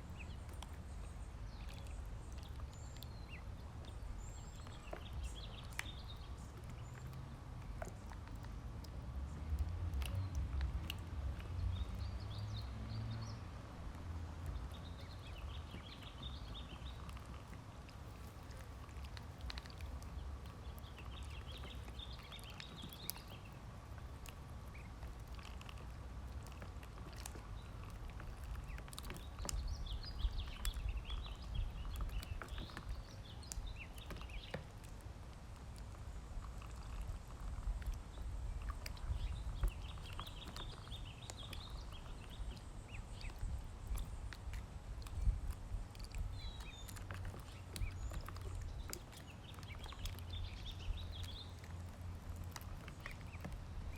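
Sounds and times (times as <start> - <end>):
ducklings peeping: 0.1 - 8.5, 14.4 - 35.0, 36.5 - 53.9.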